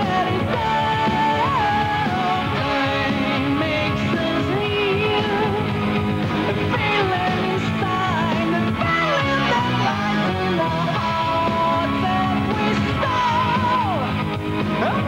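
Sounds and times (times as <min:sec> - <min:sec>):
drums: 0:00.0 - 0:15.0
electric guitars: 0:00.0 - 0:15.0.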